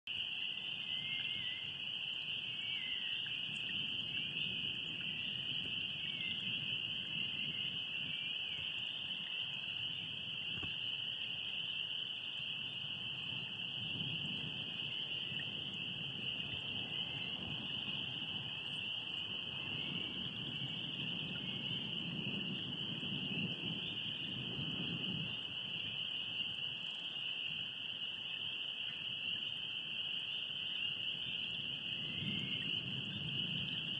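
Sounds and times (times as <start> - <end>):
frogs croaking: 0.1 - 33.9
insects trilling: 0.1 - 33.9.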